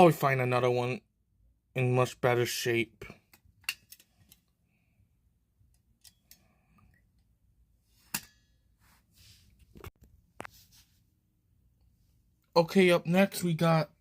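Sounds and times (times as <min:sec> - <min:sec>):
faint low background noise: 0:00.0 - 0:14.0.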